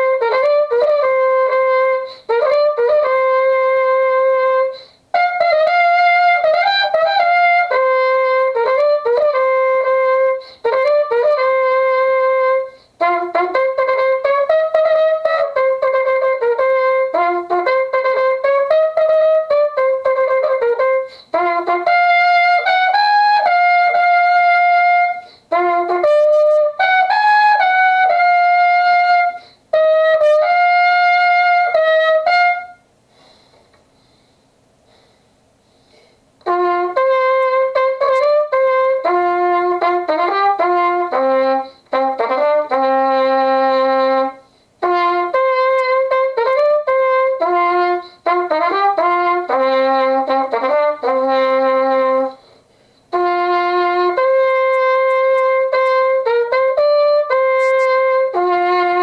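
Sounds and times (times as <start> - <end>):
solo trumpet playing: 0.0 - 32.9, 36.4 - 59.0.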